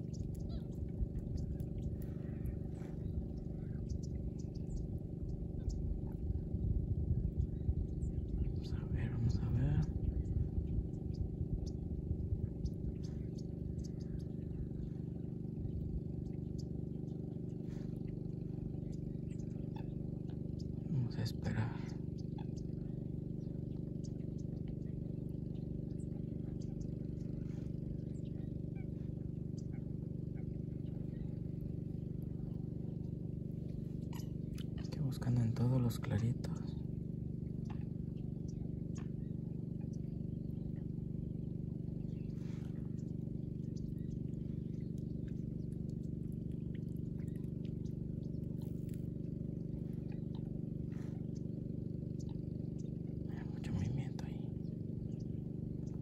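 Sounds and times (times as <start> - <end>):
motor droning hum: 0.0 - 56.0.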